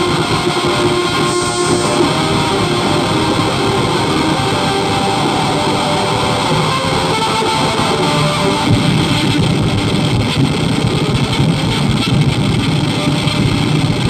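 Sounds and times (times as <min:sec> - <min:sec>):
distorted guitar amplifier noise: 0:00.0 - 0:14.0.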